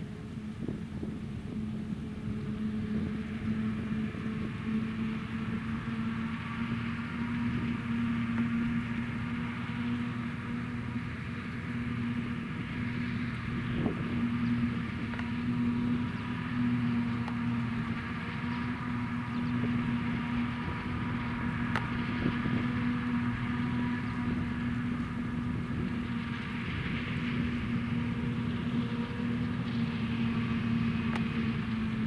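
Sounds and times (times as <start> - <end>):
steady machine hum: 0.0 - 32.0.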